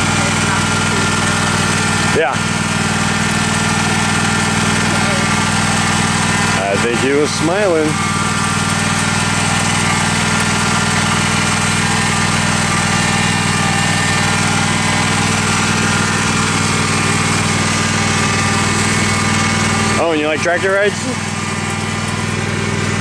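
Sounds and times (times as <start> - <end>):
tractor engine humming: 0.0 - 23.0.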